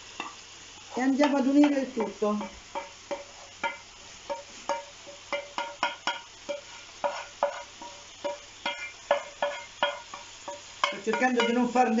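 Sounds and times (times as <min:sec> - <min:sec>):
wooden spoon tapping metal pans: 0:01.1 - 0:12.0.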